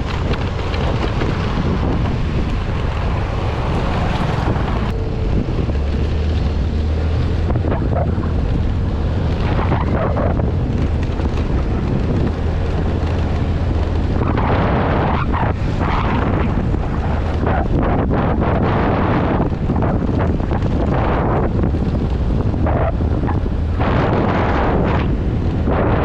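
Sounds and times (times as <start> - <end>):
steady low drone: 0.0 - 26.0
wind buffeting microphone: 0.0 - 26.0.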